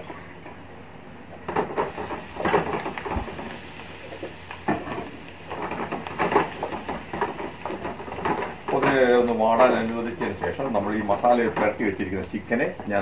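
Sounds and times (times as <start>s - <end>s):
food sizzling in hot oil: 1.5s - 13.0s.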